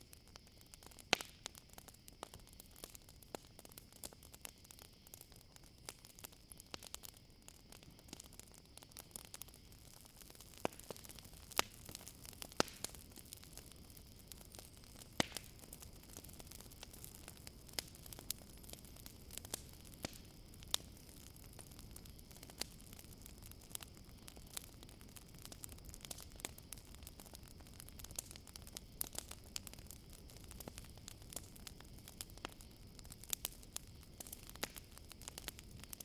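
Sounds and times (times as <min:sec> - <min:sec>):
burning wood popping: 0:00.0 - 0:36.0
campfire crackling: 0:00.0 - 0:36.0.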